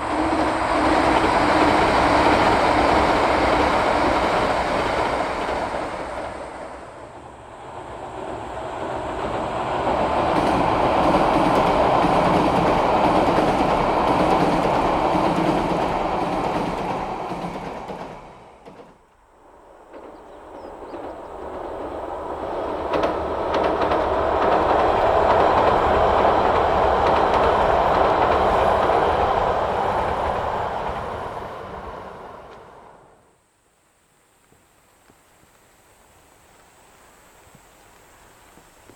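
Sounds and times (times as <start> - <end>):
train running past on rails: 0.0 - 33.4.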